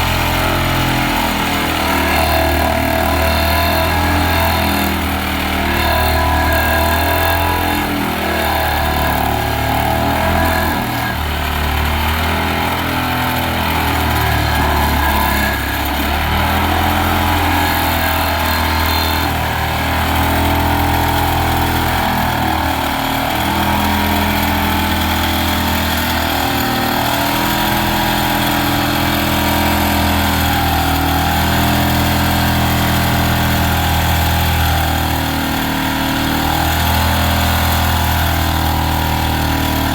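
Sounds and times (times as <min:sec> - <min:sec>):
excavator engine: 0:00.0 - 0:39.9
vibratory pile driver humming: 0:00.0 - 0:39.9.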